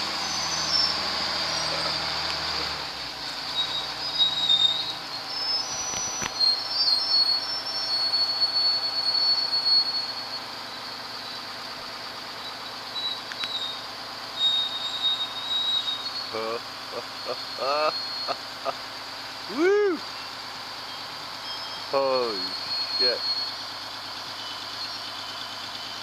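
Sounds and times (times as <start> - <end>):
metal squealing on metal: 0.0 - 11.7, 12.3 - 18.8, 20.8 - 26.0
low engine hum: 0.0 - 26.0.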